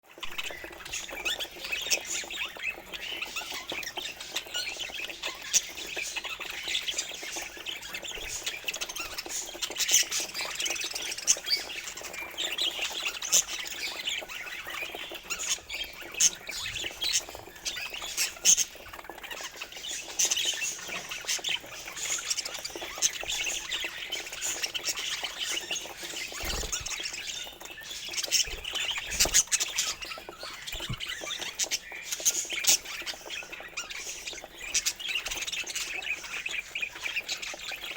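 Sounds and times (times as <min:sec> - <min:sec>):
budgerigars chattering: 0:00.1 - 0:37.9.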